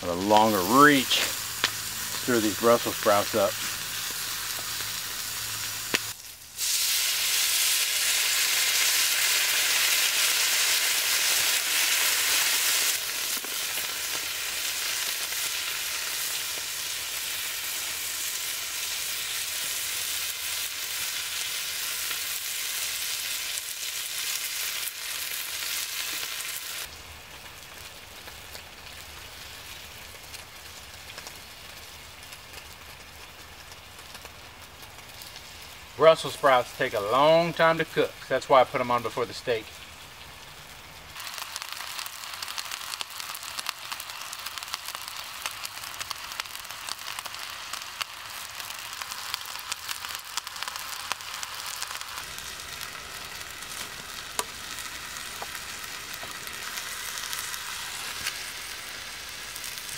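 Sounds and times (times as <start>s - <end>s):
vegetables sizzling in frying pan: 0.0s - 59.9s.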